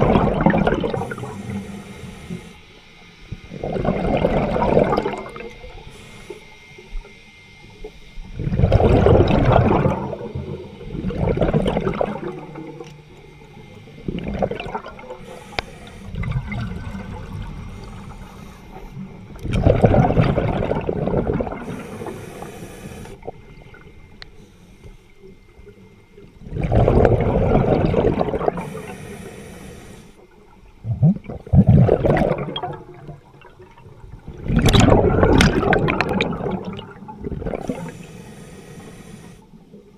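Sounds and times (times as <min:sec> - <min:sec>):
underwater air bubbling: 0:00.0 - 0:39.9.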